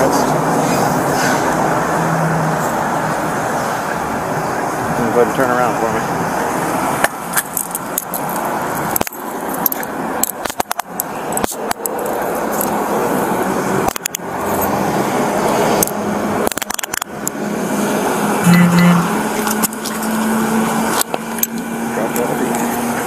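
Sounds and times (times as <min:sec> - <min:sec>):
street traffic hum: 0:00.0 - 0:23.0.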